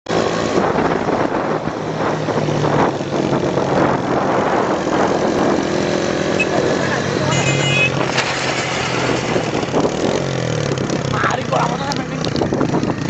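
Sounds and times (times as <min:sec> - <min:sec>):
motorcycle engines running: 0:00.1 - 0:13.0
road noise: 0:00.1 - 0:13.0
rushing wind: 0:00.1 - 0:13.0.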